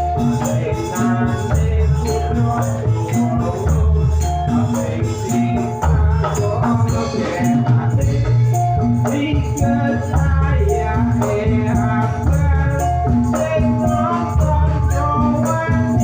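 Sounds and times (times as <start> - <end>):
metallophone melody: 0.0 - 16.0
rattling percussion beat: 0.0 - 16.0.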